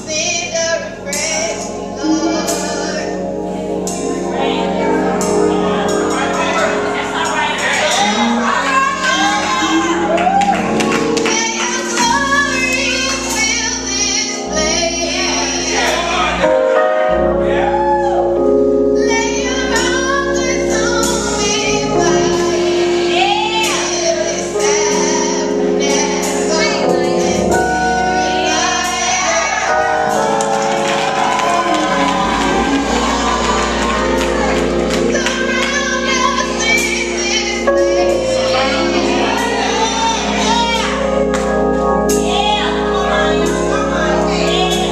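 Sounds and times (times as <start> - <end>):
gospel choir singing: 0.0 - 44.9
held instrumental chords: 0.0 - 44.9.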